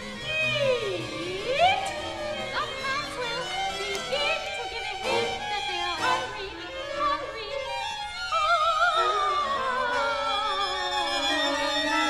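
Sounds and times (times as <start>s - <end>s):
soprano singing: 0.0s - 12.0s
string ensemble: 0.0s - 12.0s.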